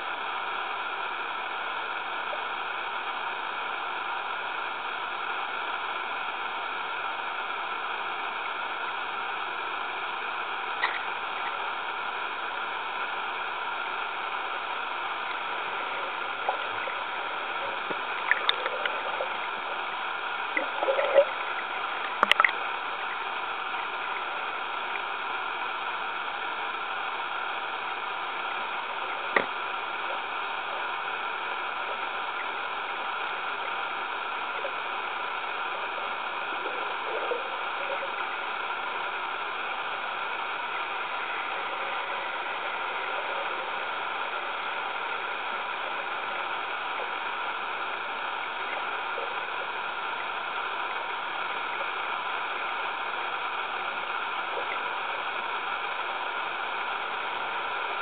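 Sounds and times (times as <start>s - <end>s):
underwater hiss: 0.0s - 58.0s.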